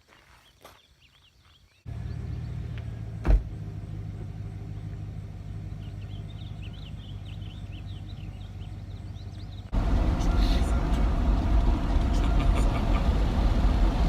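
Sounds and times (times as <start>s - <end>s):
low engine hum: 1.9s - 14.0s.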